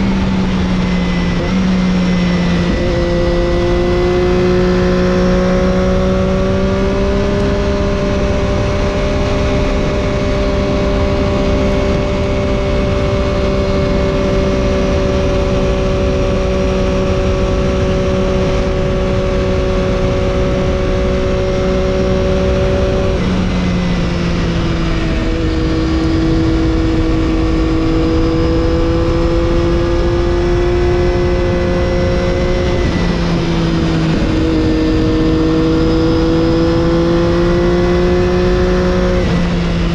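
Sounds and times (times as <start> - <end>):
motorcycle engine cruising: 0.0 - 39.9
wind noise rushing: 0.0 - 39.9.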